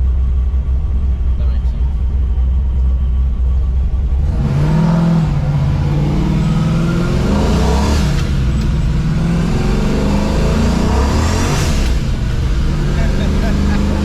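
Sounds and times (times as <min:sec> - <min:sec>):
car exhaust rumble: 0:00.0 - 0:14.0.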